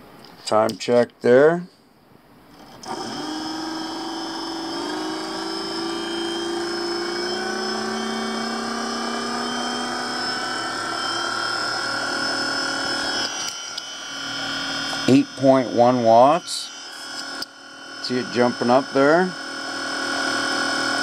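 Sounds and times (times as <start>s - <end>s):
electric motor whining: 2.6s - 21.0s.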